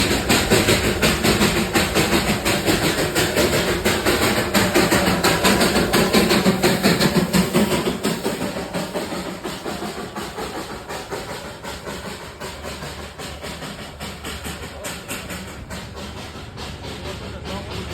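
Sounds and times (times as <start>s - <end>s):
steam hiss: 0.0s - 17.9s
steam locomotive chuffing: 0.0s - 17.9s.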